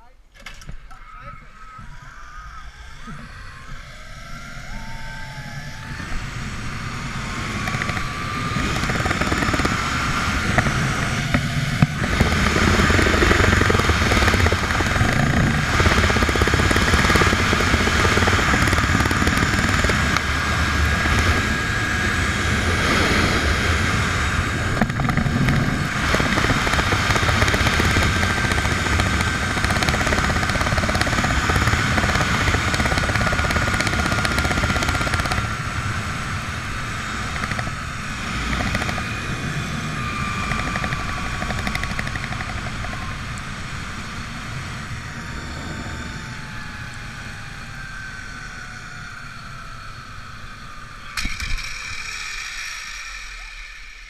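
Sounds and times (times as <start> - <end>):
zipline pulley whine: 0.0 - 54.0
wind rushing over microphone: 2.7 - 49.1.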